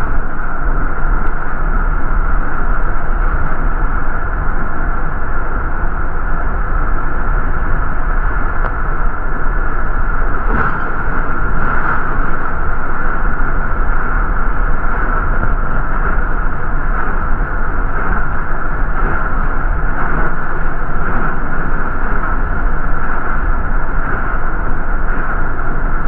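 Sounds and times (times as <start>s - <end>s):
bus rumble and hiss: 0.0s - 26.0s
constant hum: 0.0s - 26.0s.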